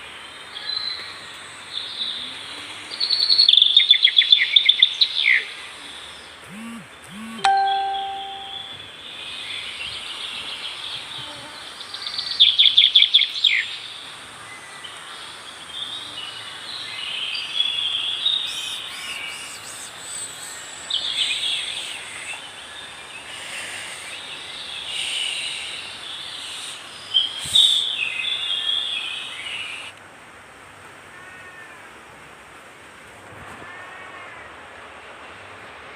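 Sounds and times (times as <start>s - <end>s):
steady background hiss: 0.0s - 35.9s.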